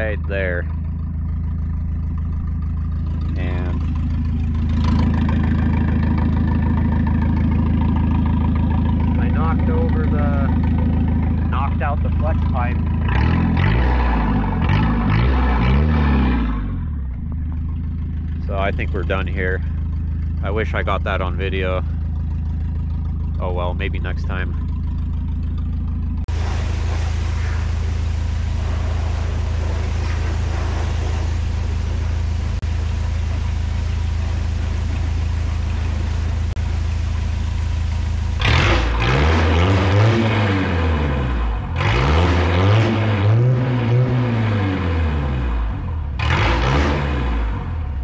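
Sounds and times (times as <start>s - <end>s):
diesel engine idling and revving: 0.0s - 48.0s.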